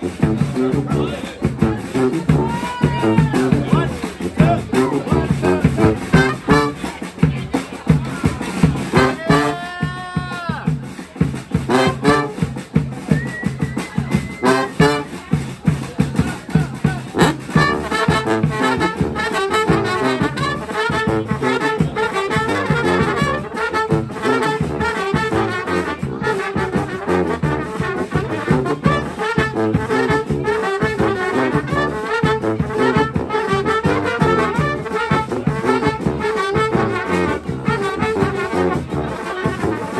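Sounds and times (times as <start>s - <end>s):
busy drum beat: 0.0s - 39.9s
street brass band playing: 0.0s - 39.9s.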